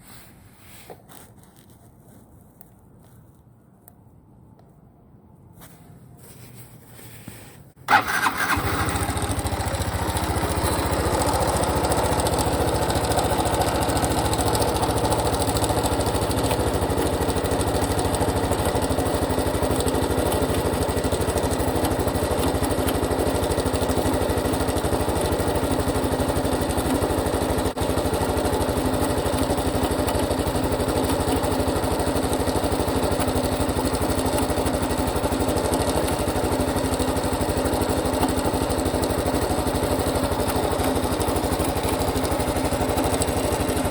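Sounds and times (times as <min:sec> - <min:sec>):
motorcycle engine idling: 0:07.9 - 0:43.9.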